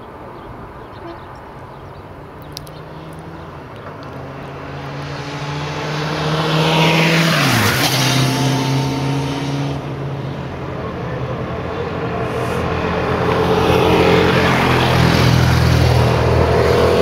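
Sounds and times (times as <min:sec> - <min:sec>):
motorcycles passing by: 0:00.9 - 0:17.0.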